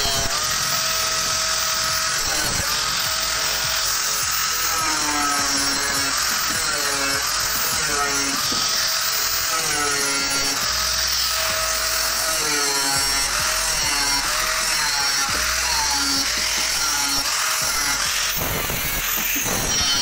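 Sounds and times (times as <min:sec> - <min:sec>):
angle grinder cutting steel: 0:00.0 - 0:20.0.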